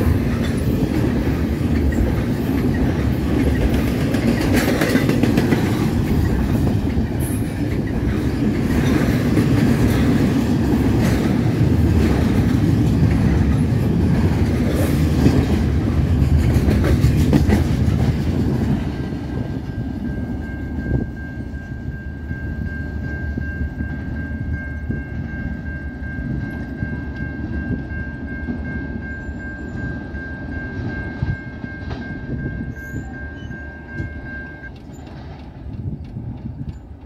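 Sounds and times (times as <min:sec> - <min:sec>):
freight train rumble and wheel clicks: 0:00.0 - 0:37.0.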